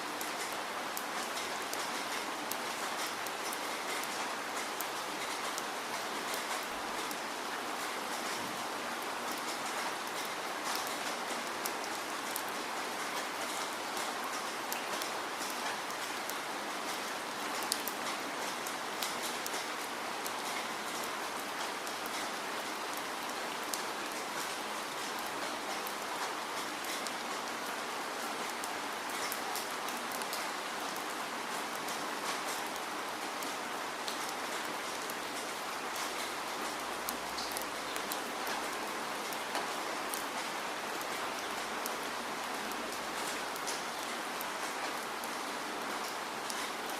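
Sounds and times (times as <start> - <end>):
raindrops ticking on a surface: 0.1 - 46.9.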